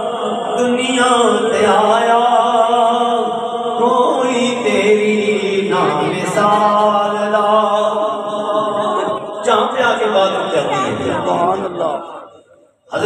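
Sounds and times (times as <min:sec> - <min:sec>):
man chanting through a microphone: 0:00.0 - 0:13.0.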